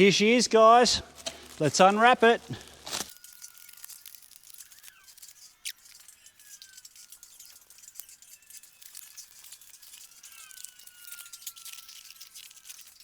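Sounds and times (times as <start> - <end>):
plastic wrapping crinkling: 0.0 - 13.0
small ticks: 1.1 - 13.0.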